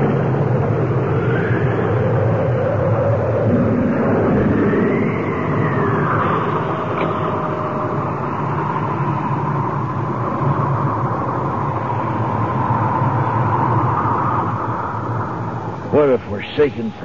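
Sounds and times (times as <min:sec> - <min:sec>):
howling wind: 0:00.0 - 0:17.0
low rumble: 0:00.0 - 0:17.0.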